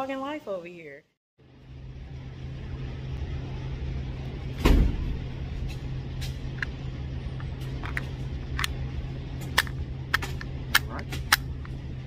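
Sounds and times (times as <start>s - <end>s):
steady low hum: 1.4s - 12.0s.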